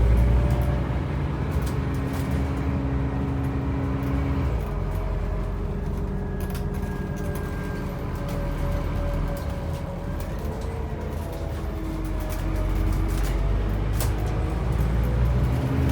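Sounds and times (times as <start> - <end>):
diesel bus engine running: 0.0 - 15.9.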